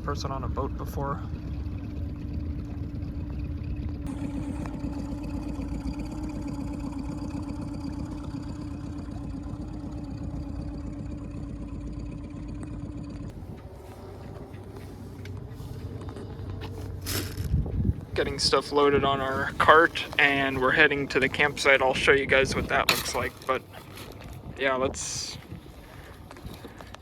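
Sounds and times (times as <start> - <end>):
small boat engine running: 0.0 - 27.0.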